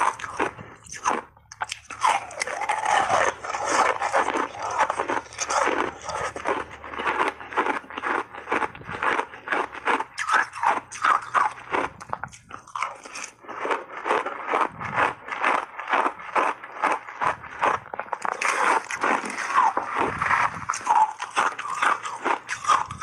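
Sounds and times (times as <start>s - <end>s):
crunching ice chunks: 0.0s - 23.0s.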